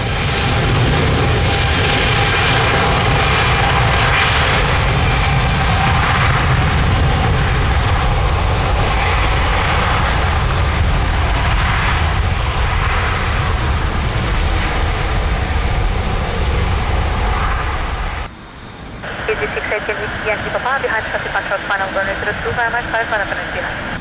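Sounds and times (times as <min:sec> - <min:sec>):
jet engines at takeoff thrust: 0:00.0 - 0:24.0.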